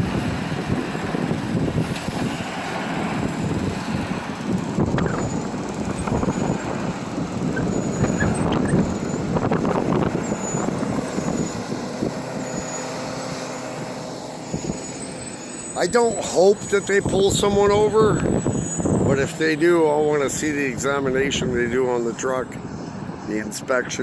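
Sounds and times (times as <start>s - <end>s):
heavy truck passing: 0.0s - 24.0s.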